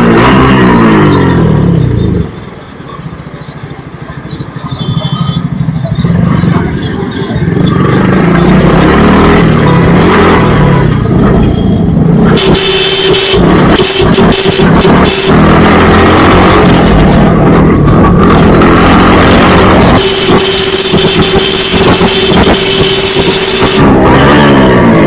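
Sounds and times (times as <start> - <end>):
motorcycle engine revving: 0.0 - 25.0
road noise: 0.0 - 25.0.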